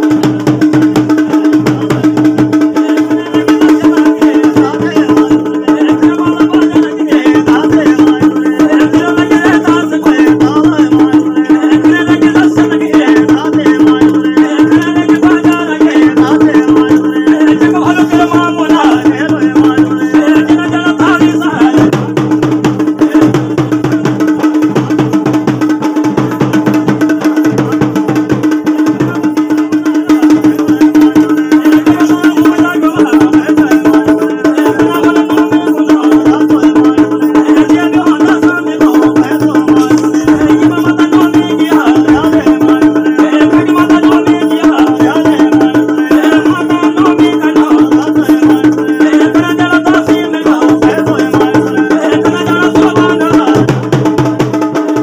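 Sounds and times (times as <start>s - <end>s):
fast folk drumming: 0.0s - 55.0s.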